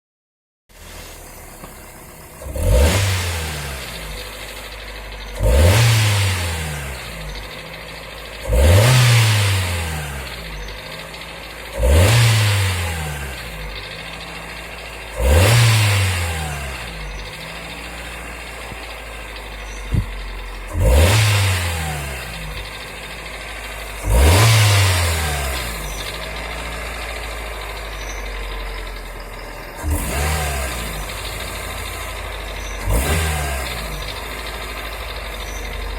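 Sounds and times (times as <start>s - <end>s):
car engine idling and revving: 0.7s - 35.9s.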